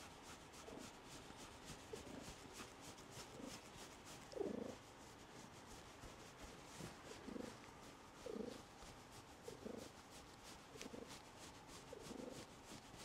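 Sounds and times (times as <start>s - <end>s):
cat purring: 0.6s - 4.9s, 6.7s - 12.8s.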